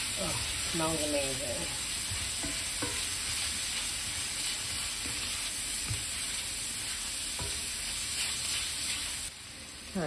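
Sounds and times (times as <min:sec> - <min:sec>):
meat sizzling in a skillet: 0:00.0 - 0:10.0
utensil scraping a pan: 0:00.5 - 0:09.3.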